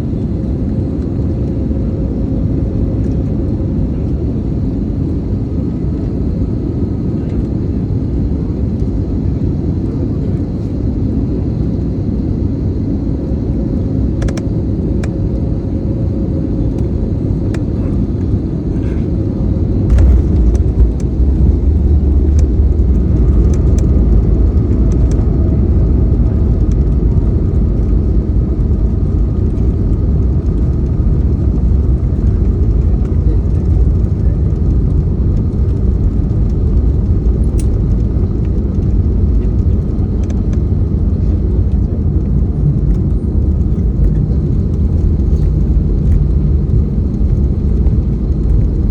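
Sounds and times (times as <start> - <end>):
airliner engines and airflow rumble: 0.0 - 48.9.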